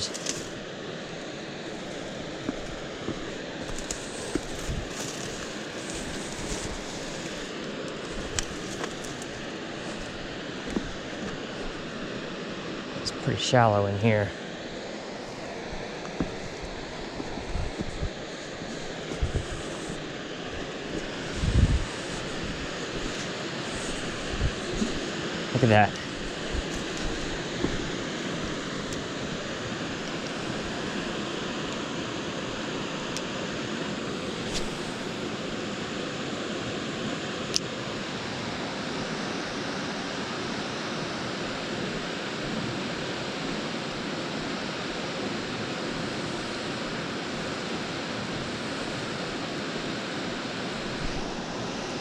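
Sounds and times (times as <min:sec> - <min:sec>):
creek water rushing: 0:00.0 - 0:43.2.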